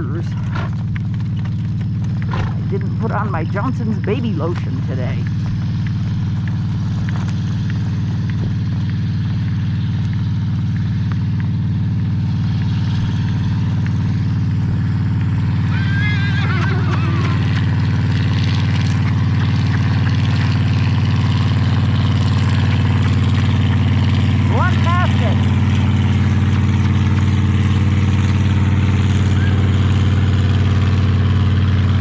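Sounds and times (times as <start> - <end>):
motor running with low hum: 0.0 - 32.0.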